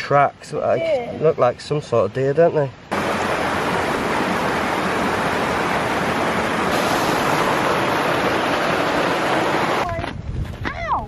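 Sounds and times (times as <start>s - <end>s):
stream rushing over boulders: 0.0s - 10.2s.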